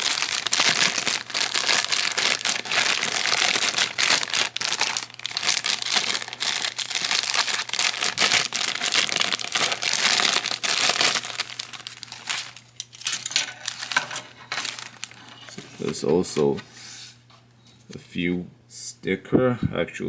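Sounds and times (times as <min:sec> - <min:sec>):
plastic bag crinkling: 0:00.0 - 0:16.7.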